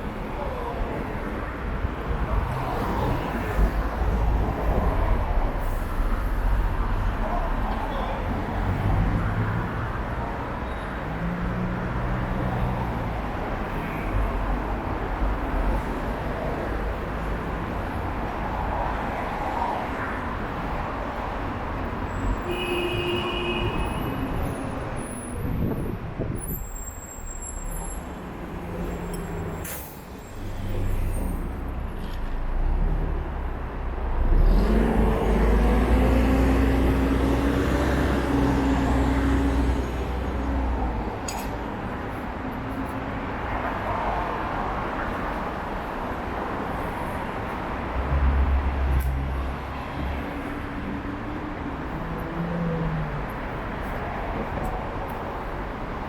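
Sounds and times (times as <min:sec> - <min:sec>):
cars and buses passing: 0:00.0 - 0:56.0.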